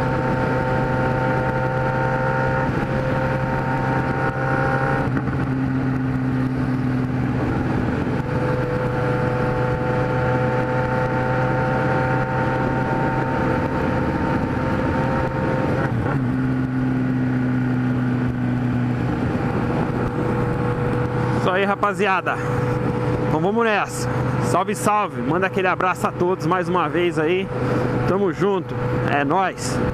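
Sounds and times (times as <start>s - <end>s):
motorcycle engine cruising: 0.0s - 29.9s
wind and road noise: 0.0s - 29.9s.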